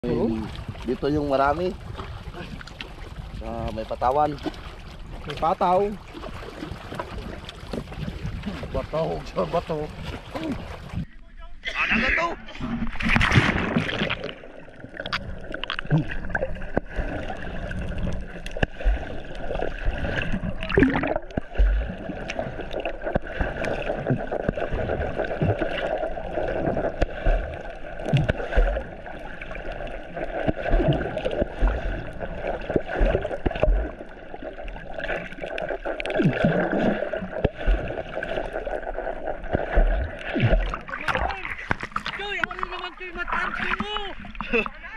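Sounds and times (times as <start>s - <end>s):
underwater gurgling and sloshing: 0.0s - 11.6s, 12.4s - 44.9s.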